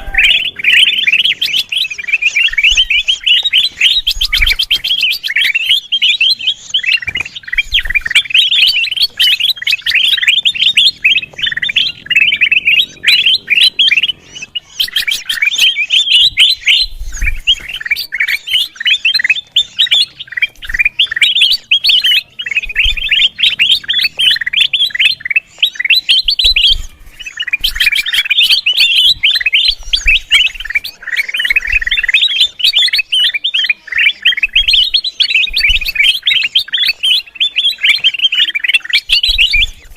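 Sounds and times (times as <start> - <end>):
bulbul chattering: 0.0 - 39.9.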